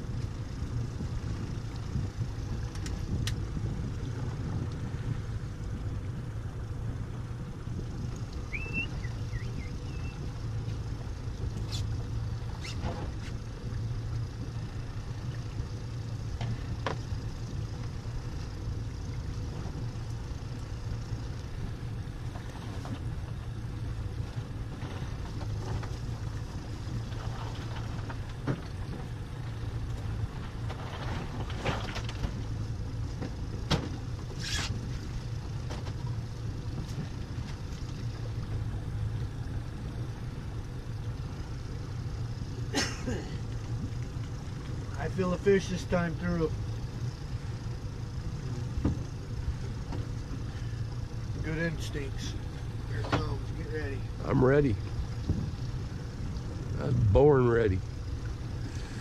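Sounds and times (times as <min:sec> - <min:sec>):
outboard motor humming: 0:00.0 - 0:59.0.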